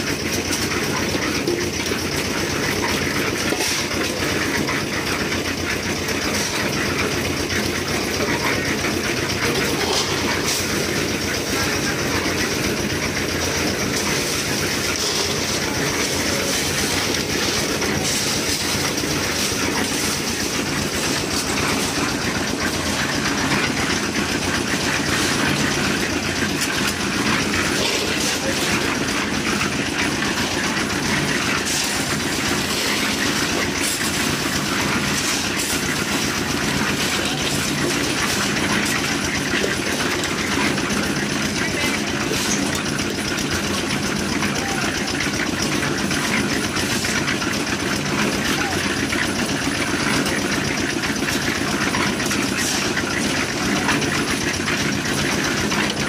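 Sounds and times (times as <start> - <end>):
concrete mixer motor humming: 0.0 - 56.0
mixer drum rattling: 0.0 - 56.0.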